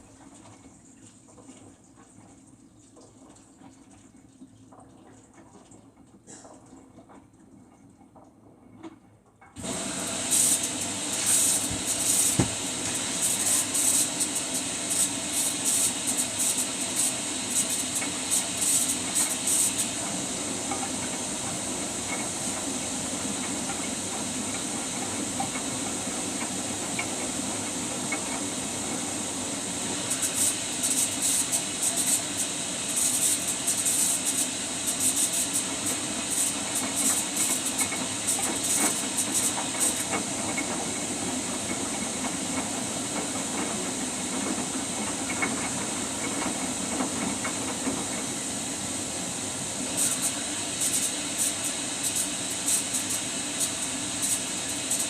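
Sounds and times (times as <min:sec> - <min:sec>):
water rushing into washing machine: 0:00.0 - 0:08.4, 0:09.6 - 0:55.0.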